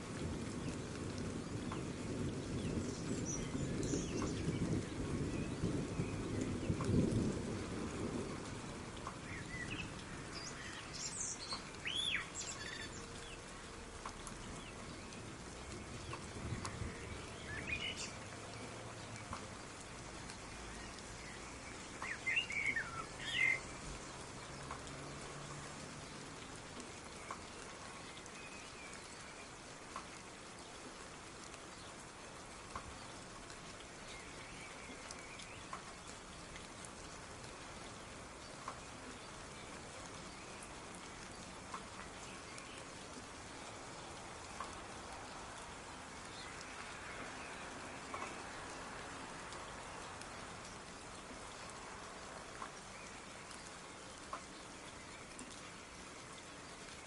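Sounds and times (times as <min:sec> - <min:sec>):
soft rain: 0:00.0 - 0:57.0
water drips: 0:00.0 - 0:57.0
birds chirping: 0:00.5 - 0:07.2, 0:08.0 - 0:57.0.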